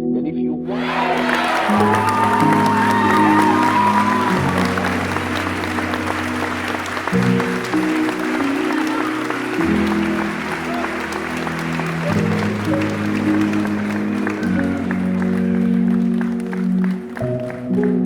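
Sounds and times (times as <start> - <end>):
clapping and applause: 0.7 - 18.0
music of slow held chords: 0.7 - 18.0.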